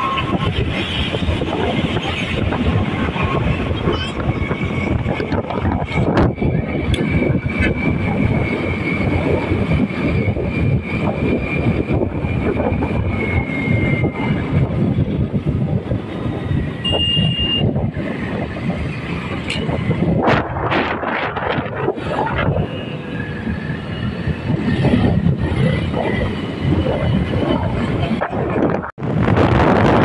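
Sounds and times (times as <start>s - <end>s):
train running on track: 0.0s - 30.0s
vehicle road noise: 0.0s - 30.0s.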